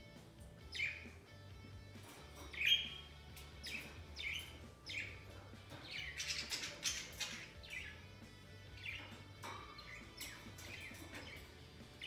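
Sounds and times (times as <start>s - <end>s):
budgerigars chirping: 0.7s - 1.2s, 2.0s - 12.0s.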